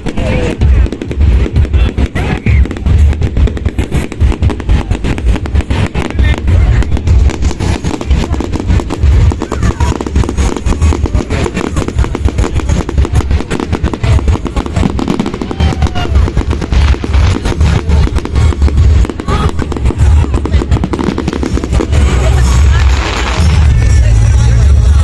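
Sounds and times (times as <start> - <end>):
deep low booms: 0.0 - 25.0
fireworks bangs and crackles: 0.0 - 25.0.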